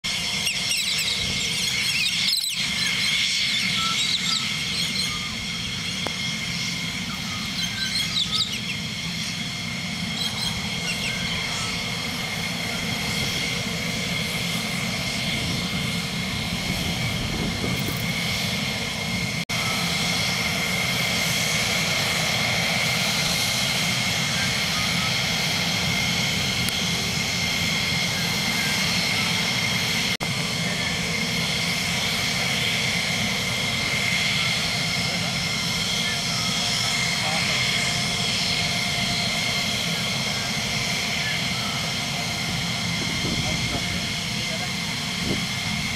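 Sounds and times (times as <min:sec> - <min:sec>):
jet engine turbine whine: 0:00.0 - 0:45.9.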